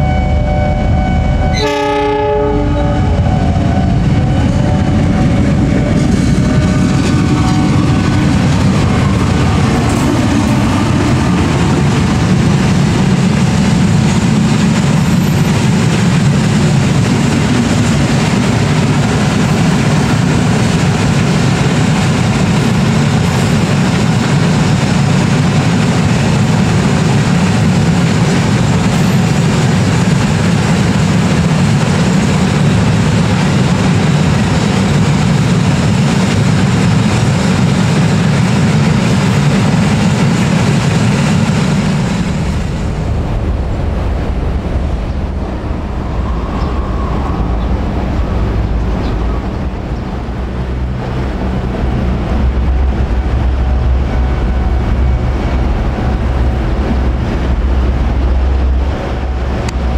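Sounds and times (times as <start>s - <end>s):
diesel locomotive droning: 0.0s - 59.9s.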